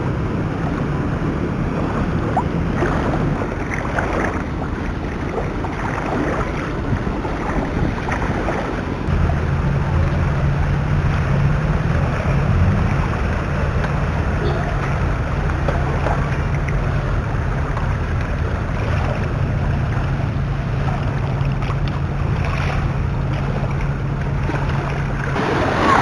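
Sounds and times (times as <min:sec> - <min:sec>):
low rumble: 0:00.0 - 0:26.0
water sloshing around wading legs: 0:00.0 - 0:26.0
wind on microphone: 0:00.0 - 0:26.0.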